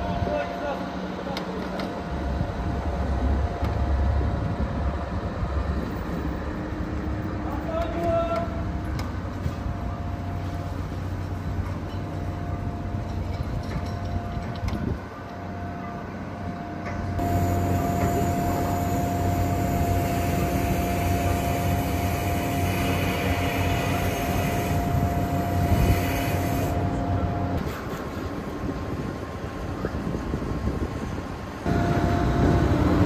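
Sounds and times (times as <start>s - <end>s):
constant whining tone: 0.0s - 33.0s
heavy machinery engine drone: 0.0s - 33.0s.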